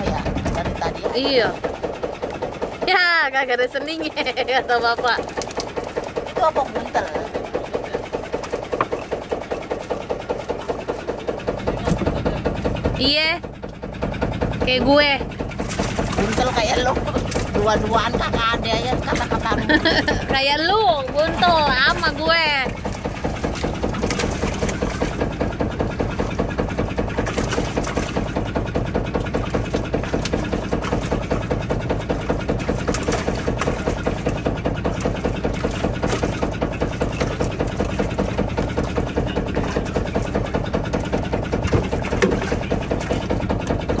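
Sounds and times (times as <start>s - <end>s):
boat engine idling: 0.0s - 44.0s.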